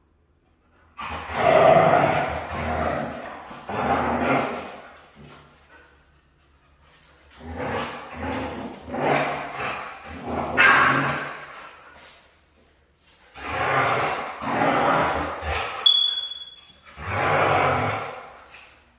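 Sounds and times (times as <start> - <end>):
dogs barking in play: 0.9 - 6.6, 7.2 - 12.2, 13.3 - 16.0, 16.7 - 18.9.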